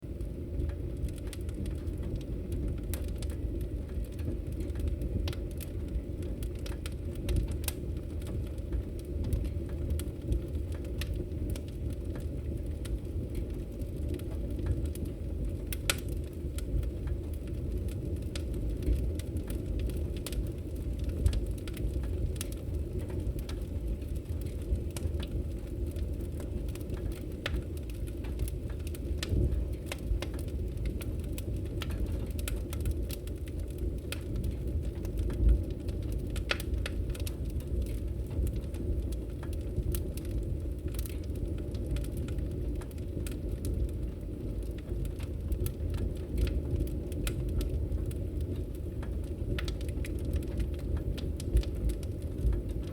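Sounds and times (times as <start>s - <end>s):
low rumble of fire: 0.0s - 52.9s
wood fire crackles and pops: 0.0s - 52.9s.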